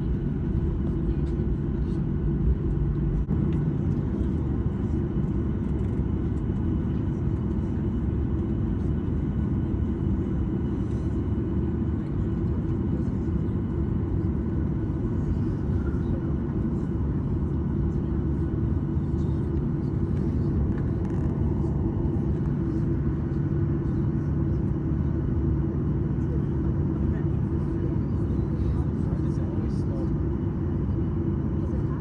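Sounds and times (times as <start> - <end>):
jet engines and airflow rumble: 0.0 - 32.0.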